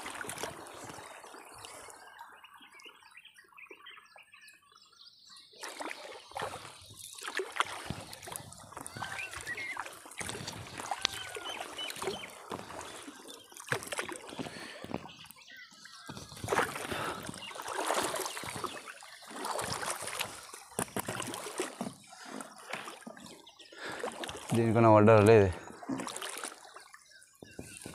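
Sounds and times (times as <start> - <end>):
water sloshing and splashing: 0.0 - 2.1, 5.5 - 27.9.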